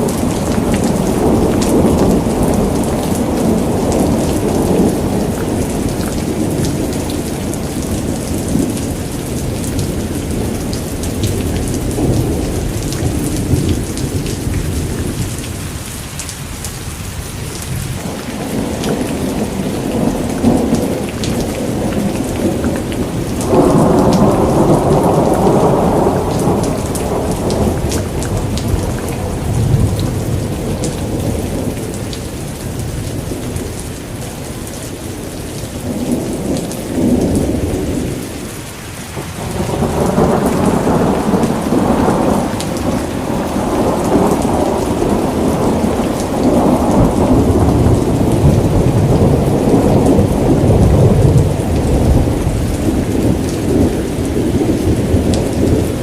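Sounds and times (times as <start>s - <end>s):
rolling thunder: 0.0s - 15.7s, 17.6s - 38.4s, 39.1s - 56.0s
steady rain: 0.0s - 56.0s.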